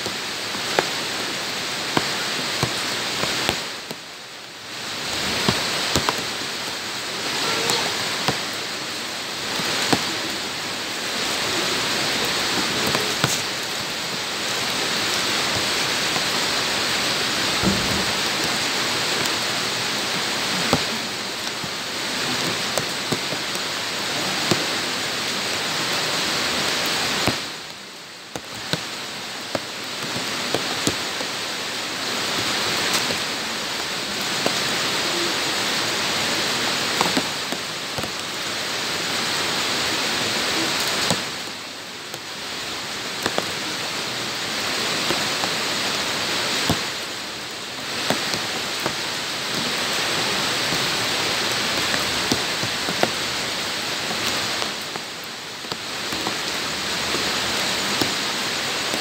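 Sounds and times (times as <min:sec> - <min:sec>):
rain on wet ground: 0:00.0 - 0:59.0
raindrops splatting: 0:00.0 - 0:59.0.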